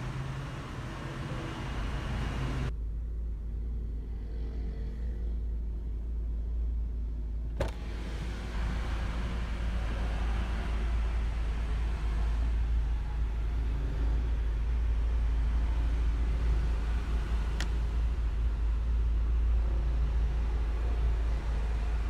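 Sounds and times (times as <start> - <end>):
car engine idling: 0.0 - 4.4, 5.0 - 22.0.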